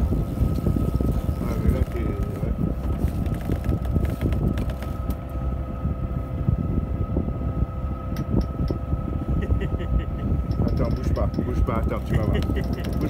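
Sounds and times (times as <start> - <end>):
mechanical hum with high tone: 0.0 - 13.0
wind buffeting microphone: 0.0 - 13.0.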